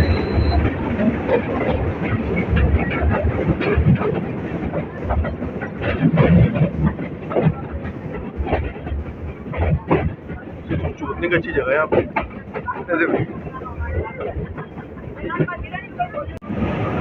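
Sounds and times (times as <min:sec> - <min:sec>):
train rumbling: 0:00.0 - 0:17.0
wheels clacking on track: 0:00.0 - 0:17.0.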